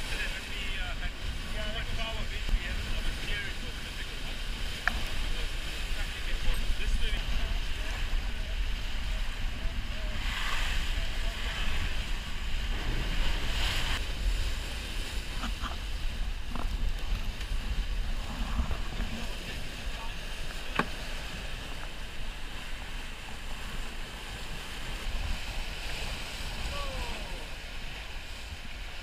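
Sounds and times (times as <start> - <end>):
water rushing along boat hull: 0.0 - 29.0
wind buffeting microphone: 0.0 - 29.0.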